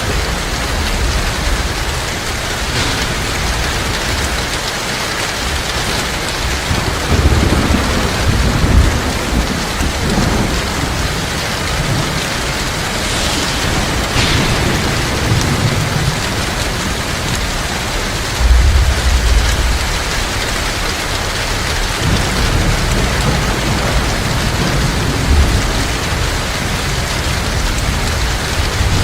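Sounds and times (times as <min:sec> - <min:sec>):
heavy rain pouring: 0:00.0 - 0:29.0
low thunder rumbling: 0:00.0 - 0:29.0.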